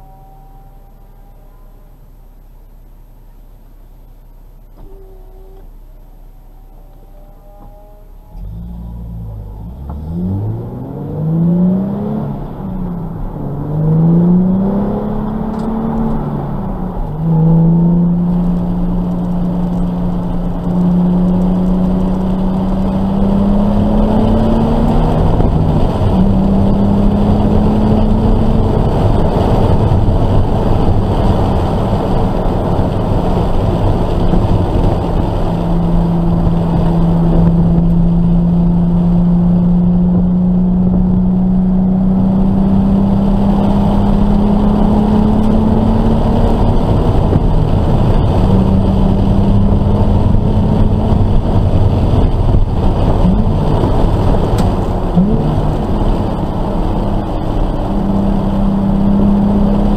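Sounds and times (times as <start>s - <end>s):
car engine accelerating hard: 0.0s - 59.9s
wind noise: 9.2s - 59.9s.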